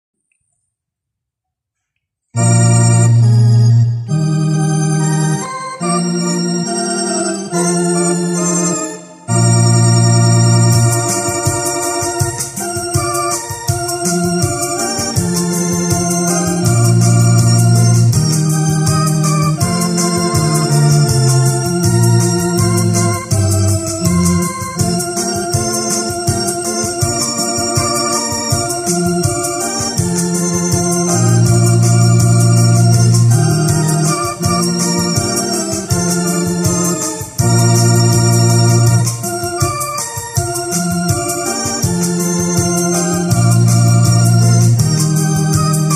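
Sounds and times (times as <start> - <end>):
accompaniment beat ticking: 2.4 - 45.9
keyboard playing hymn in organ voice: 2.4 - 45.9.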